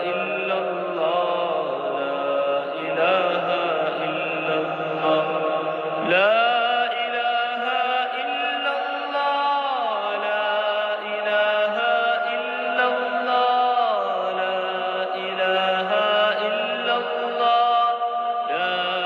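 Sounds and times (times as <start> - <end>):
slow drawn-out chant: 0.0 - 19.0.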